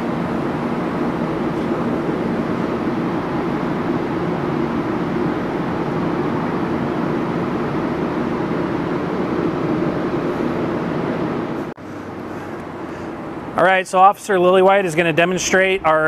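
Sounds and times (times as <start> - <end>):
engine droning with hiss: 0.0 - 16.0.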